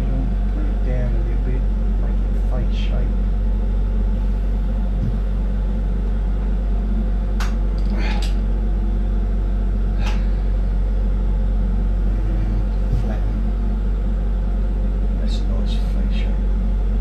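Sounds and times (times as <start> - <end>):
torch burning hum: 0.0 - 17.0.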